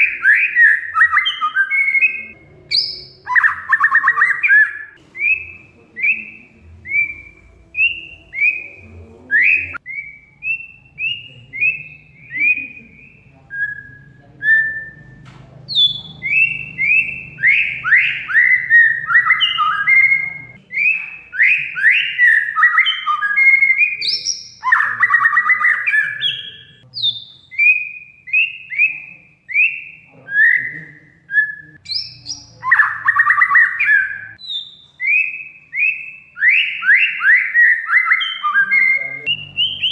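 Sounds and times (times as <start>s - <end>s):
bird whistled song: 0.0s - 39.9s
harsh bird chattering: 0.0s - 39.9s.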